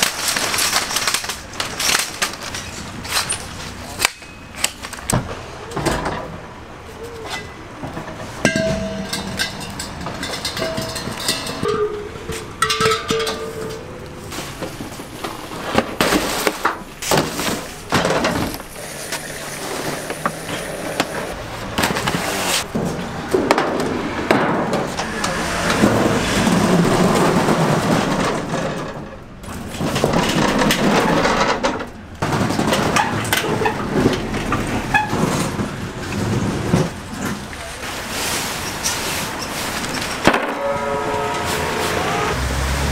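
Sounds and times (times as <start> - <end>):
scraping and shuffling on metal: 5.8 - 18.7, 19.6 - 42.5.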